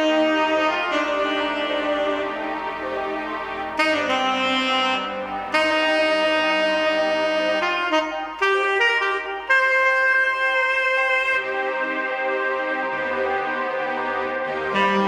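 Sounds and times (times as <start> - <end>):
saxophone jazz ballad: 0.0 - 12.3, 14.6 - 15.0
soft musical backing: 0.0 - 15.0.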